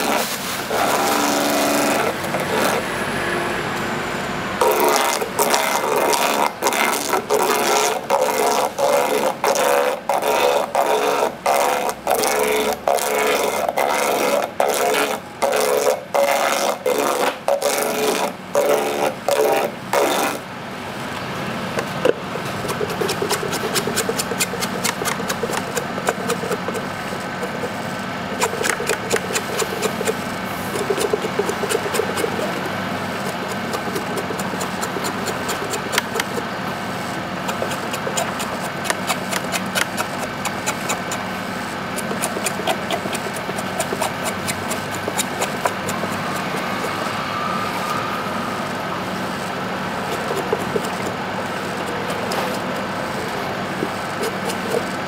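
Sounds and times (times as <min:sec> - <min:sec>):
machine scraping coconut: 0:00.0 - 0:20.5, 0:21.1 - 0:55.0
machine running: 0:00.0 - 0:55.0.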